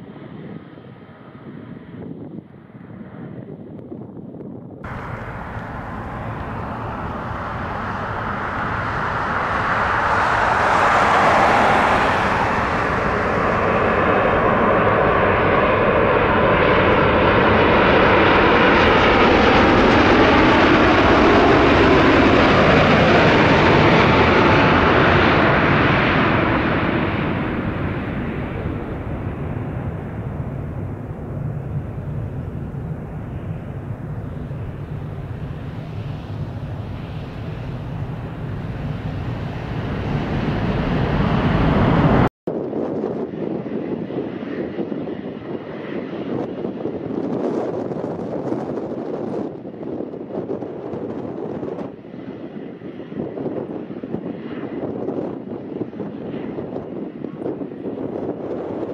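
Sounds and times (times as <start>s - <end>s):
jet airliner engines passing: 0.0s - 58.9s.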